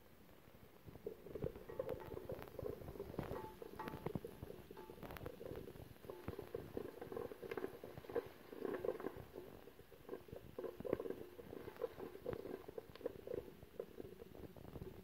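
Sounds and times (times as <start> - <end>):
wooden spoon scraping a pot: 1.0 - 14.0.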